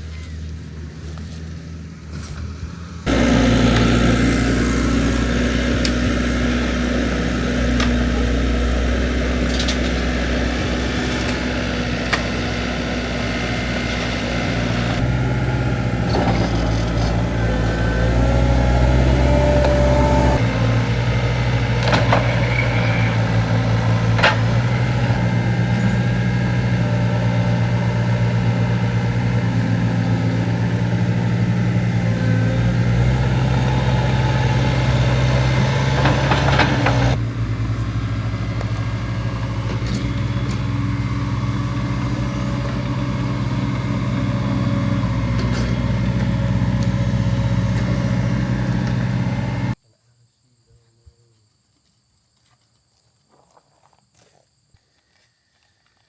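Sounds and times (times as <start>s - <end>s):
large engine running: 0.0s - 49.8s.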